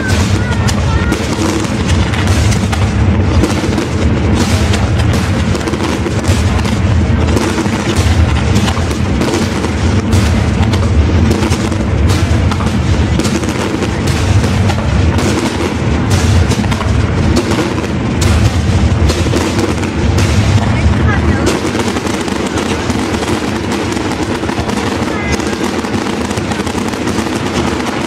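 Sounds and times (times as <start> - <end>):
fireworks bursts and booms: 0.0 - 28.0
heavy low rumble: 0.0 - 28.0.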